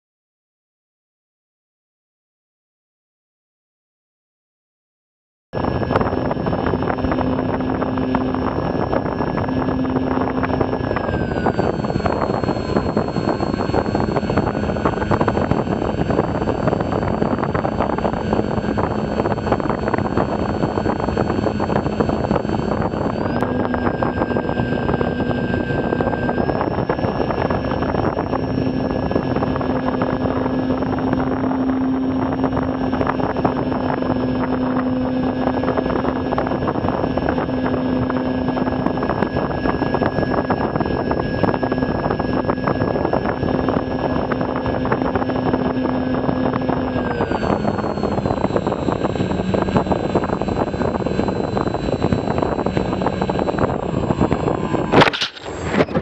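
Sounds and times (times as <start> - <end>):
model plane motor and propeller: 5.6 - 56.0
wind rush: 5.6 - 56.0.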